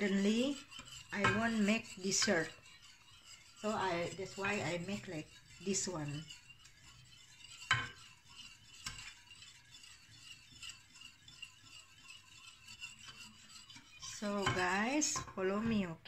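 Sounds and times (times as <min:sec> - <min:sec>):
spoon scraping and clinking pot: 0:00.0 - 0:15.8.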